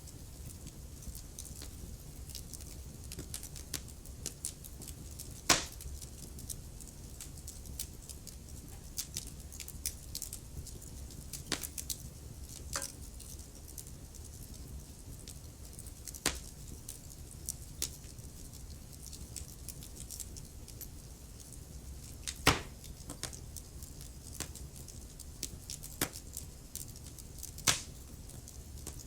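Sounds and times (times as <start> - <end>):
wood fire crackling: 0.0 - 29.0
loud pops from fire: 0.1 - 13.8, 15.2 - 18.2, 18.9 - 29.0.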